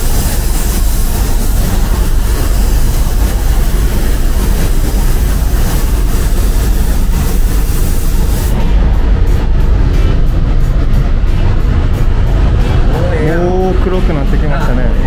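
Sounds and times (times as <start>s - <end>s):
machinery hiss: 0.0s - 15.0s
machinery rumble: 0.0s - 15.0s.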